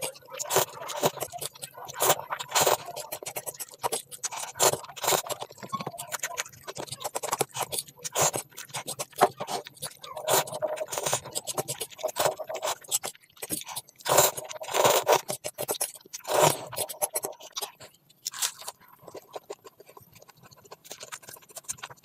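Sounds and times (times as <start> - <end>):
food being chewed: 0.0 - 22.0.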